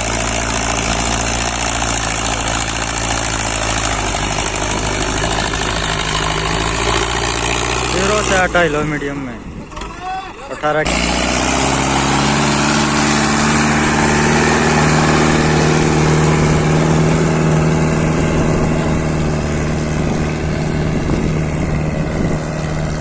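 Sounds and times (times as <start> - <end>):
tractor engine under load: 0.0 - 23.0.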